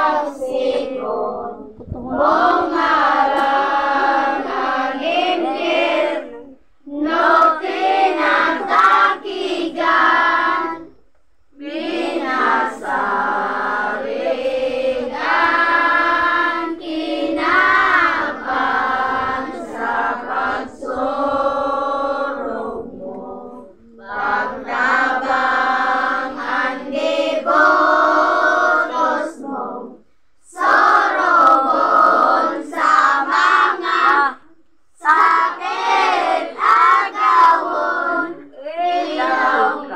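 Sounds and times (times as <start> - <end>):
children and women singing a hymn: 0.0 - 39.9.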